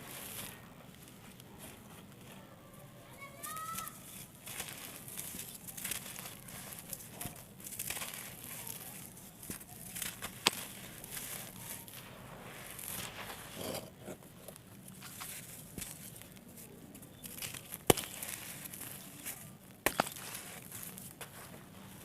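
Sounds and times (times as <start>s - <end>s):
dry dirt crumbling and crunching: 0.0s - 22.0s.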